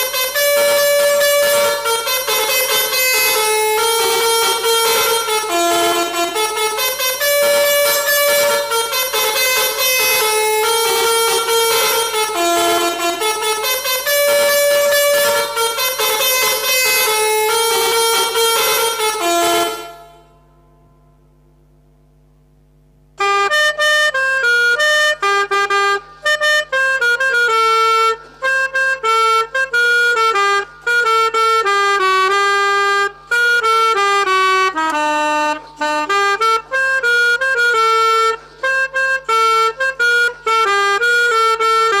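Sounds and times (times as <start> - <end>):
melodica playing a tune: 0.0 - 20.5, 23.2 - 42.0.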